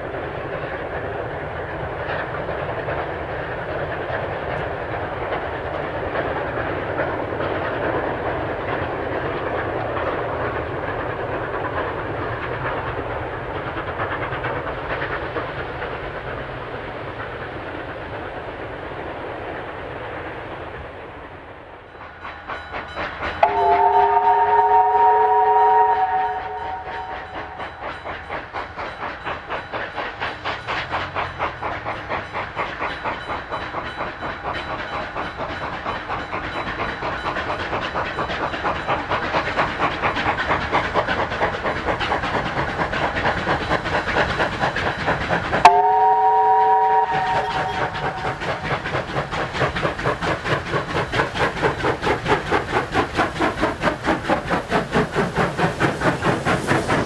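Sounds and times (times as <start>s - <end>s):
steam locomotive exhaust beats: 0.0s - 57.0s.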